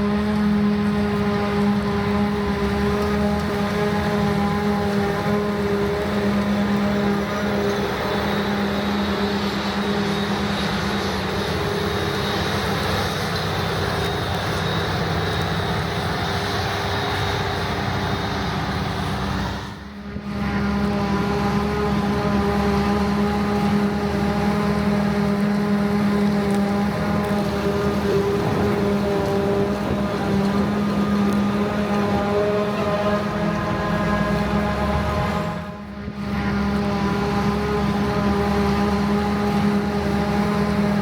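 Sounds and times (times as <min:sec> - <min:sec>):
diesel machinery engine drone: 0:00.0 - 0:41.0.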